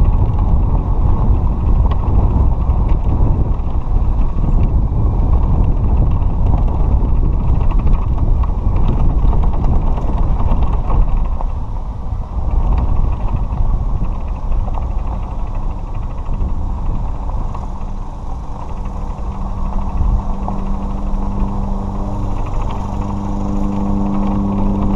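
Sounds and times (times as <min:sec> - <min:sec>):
cart body rattling and creaking: 0:00.0 - 0:24.9
golf cart driving over gravel: 0:00.0 - 0:24.9
steady low hum: 0:00.0 - 0:24.9.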